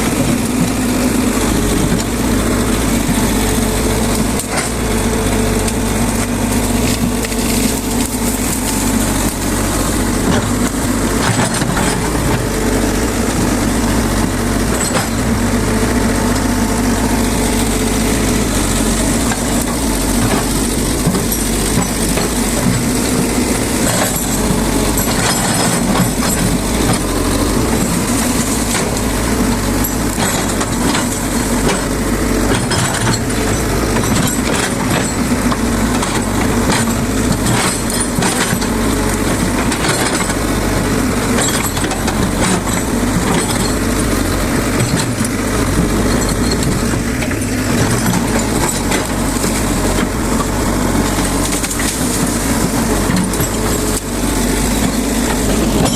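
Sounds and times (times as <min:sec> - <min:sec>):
excavator diesel engine: 0:00.0 - 0:55.9.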